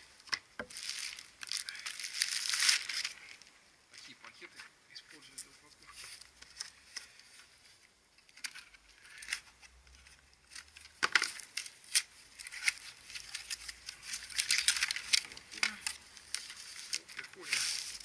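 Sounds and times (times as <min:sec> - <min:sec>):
plastic wrapping crinkling: 0:00.2 - 0:04.5, 0:05.1 - 0:18.0.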